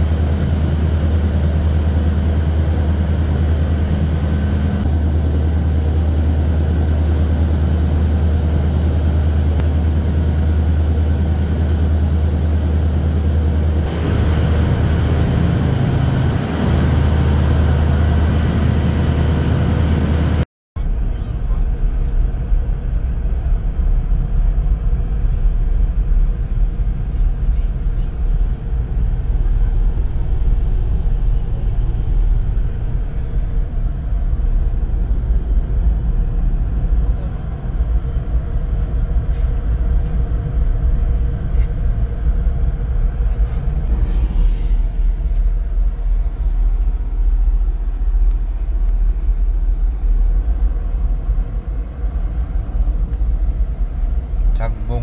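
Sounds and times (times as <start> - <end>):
vehicle rumble inside car cabin: 0.0 - 55.0.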